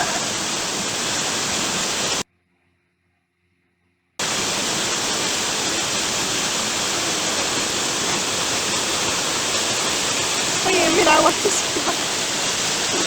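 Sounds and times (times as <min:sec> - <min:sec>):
waterfall rushing: 0:00.0 - 0:02.2, 0:04.2 - 0:13.0.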